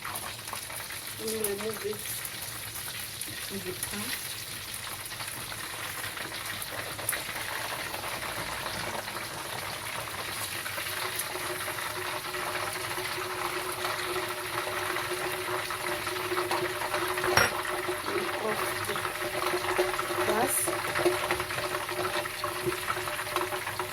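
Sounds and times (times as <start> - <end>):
frying oil bubbling and crackling: 0.0 - 23.9.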